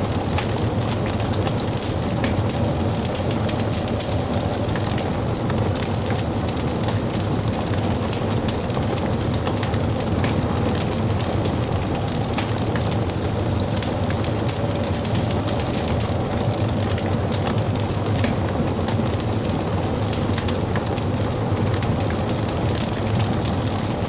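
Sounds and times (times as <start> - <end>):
low rumble of fire: 0.0 - 24.0
wood fire crackling: 0.0 - 24.0.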